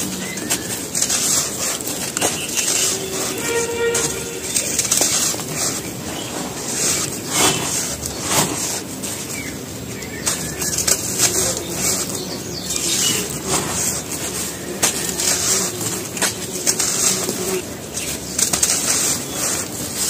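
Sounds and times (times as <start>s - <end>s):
cement lumps crunching: 0.0s - 20.0s
dry cement rustling as poured: 0.0s - 20.0s.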